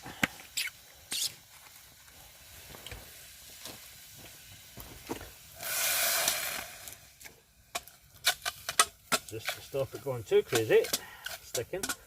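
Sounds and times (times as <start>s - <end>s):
faint hiss with small ticks: 0.0s - 12.0s
loud sizzle of water in hot pan: 0.0s - 12.0s.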